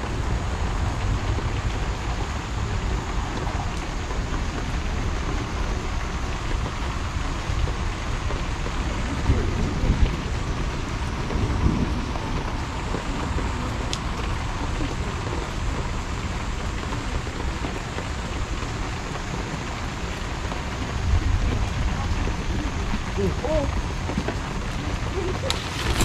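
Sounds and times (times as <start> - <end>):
rain pouring on a wet street: 0.0 - 26.0.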